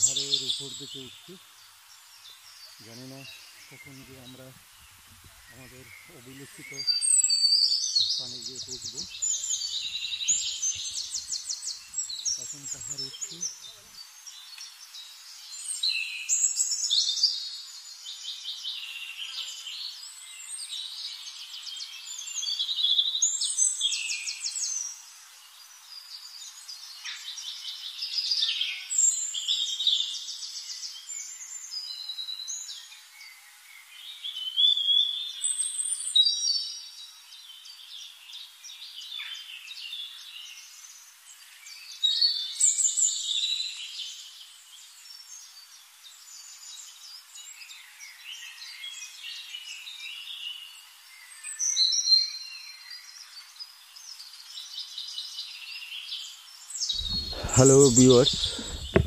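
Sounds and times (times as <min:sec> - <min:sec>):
forest birds trilling and whistling: 0:00.0 - 0:59.0.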